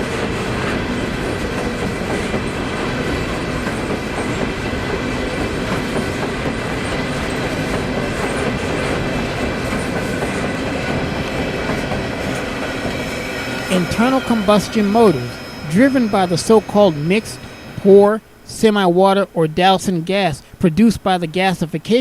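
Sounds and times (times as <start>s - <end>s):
freight train wheels rumbling: 0.0s - 18.4s.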